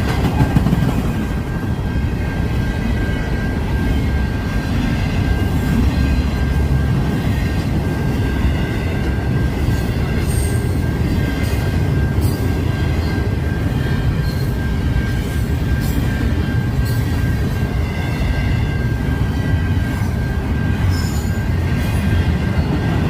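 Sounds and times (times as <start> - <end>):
train cars rumbling: 0.0 - 23.0
wheels squealing on rails: 0.0 - 23.0.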